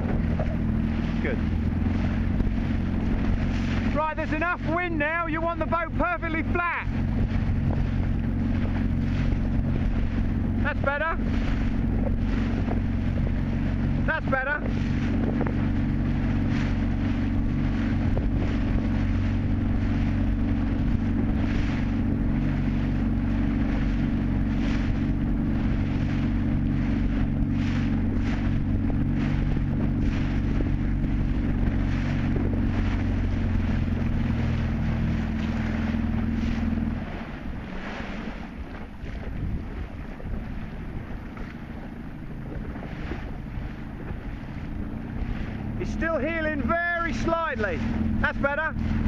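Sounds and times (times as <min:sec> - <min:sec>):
outboard motor running: 0:00.0 - 0:49.0
water splashing against hull: 0:00.0 - 0:49.0
wind buffeting microphone: 0:00.0 - 0:49.0.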